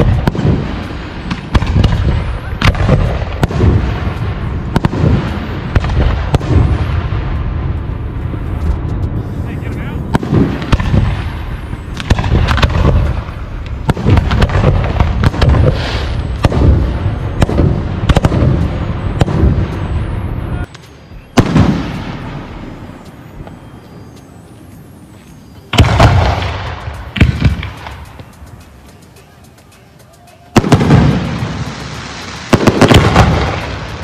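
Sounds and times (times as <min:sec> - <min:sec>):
fireworks booms and bangs: 0:00.0 - 0:22.8, 0:25.7 - 0:28.3, 0:30.5 - 0:34.0.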